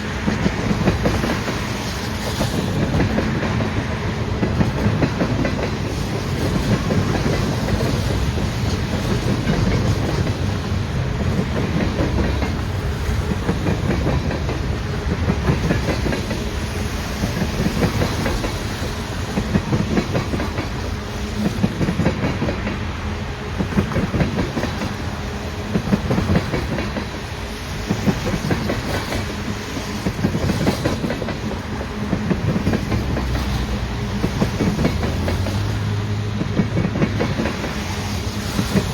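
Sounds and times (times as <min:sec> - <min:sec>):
rumble of train wheels on rail: 0:00.0 - 0:38.9
train wheels clicking over rail joints: 0:00.0 - 0:38.9.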